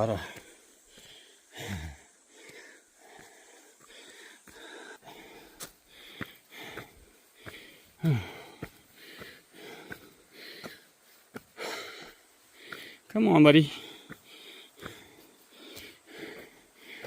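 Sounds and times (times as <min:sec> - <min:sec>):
person breathing hard and wheezing: 0:00.2 - 0:13.1, 0:13.7 - 0:17.0.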